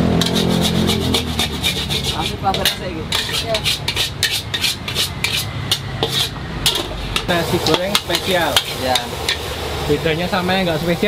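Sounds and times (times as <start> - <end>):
metal spatula scraping a wok: 0.0 - 9.6.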